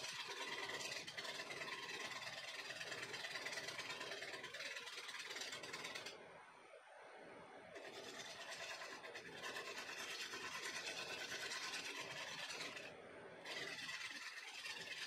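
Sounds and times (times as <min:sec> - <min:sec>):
gouge scraping wood on lathe: 0:00.0 - 0:06.2, 0:07.8 - 0:15.0.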